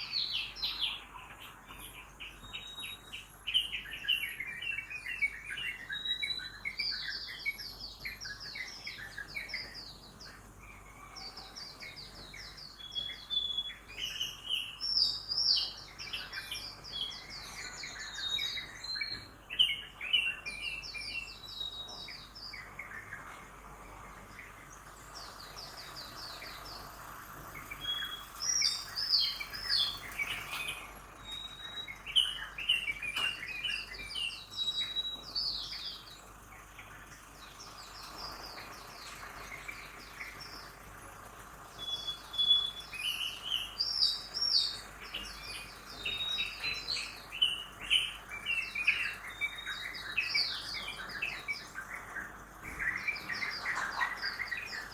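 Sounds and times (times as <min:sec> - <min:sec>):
faint city traffic hum: 0:00.0 - 0:54.9
songbirds chirping and trilling: 0:00.0 - 0:54.9.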